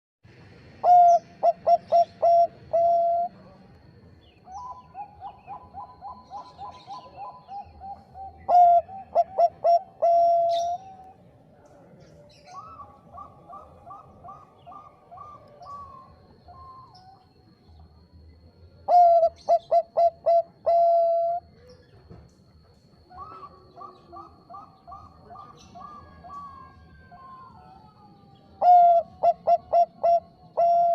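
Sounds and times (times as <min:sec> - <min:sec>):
dove singing cooing phrases: 0:00.3 - 0:22.1, 0:22.9 - 0:30.9.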